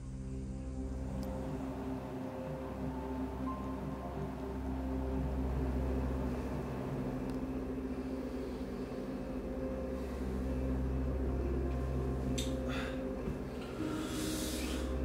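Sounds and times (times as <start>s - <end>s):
low hum of held tones: 0.0s - 15.0s.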